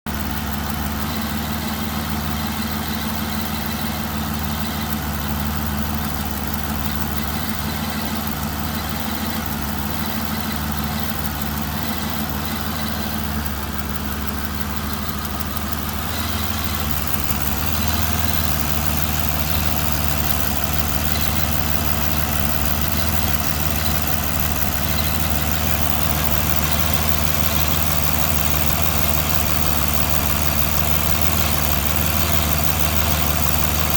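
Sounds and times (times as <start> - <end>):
car engine idling: 0.0 - 33.9
loud irregular ticking: 0.0 - 33.9.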